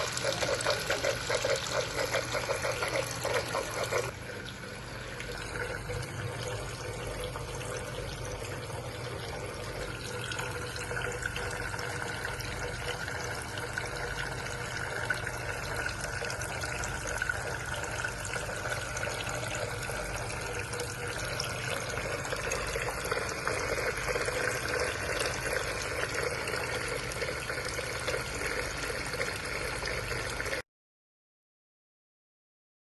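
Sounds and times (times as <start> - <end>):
water fountain trickling: 0.0 - 30.6.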